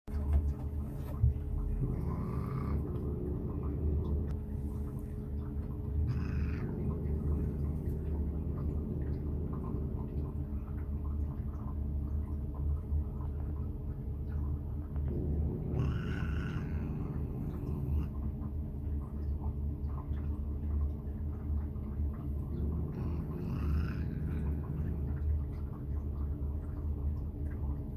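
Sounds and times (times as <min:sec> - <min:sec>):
cat purring: 0:00.1 - 0:27.9.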